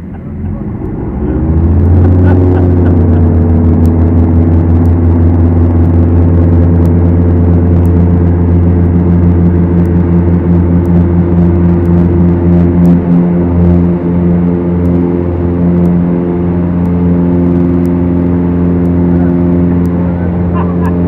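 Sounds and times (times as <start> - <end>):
aircraft engines from inside cabin: 0.0 - 21.0.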